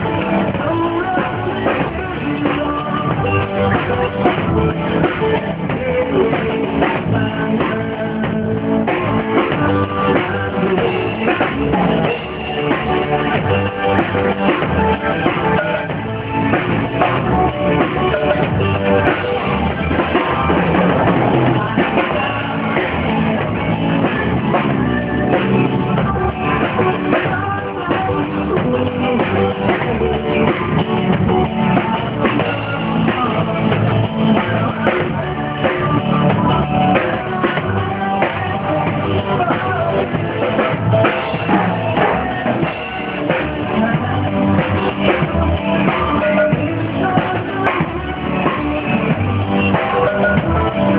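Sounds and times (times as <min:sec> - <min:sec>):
person singing: 0:00.0 - 0:50.9
rock band playing: 0:00.0 - 0:50.9.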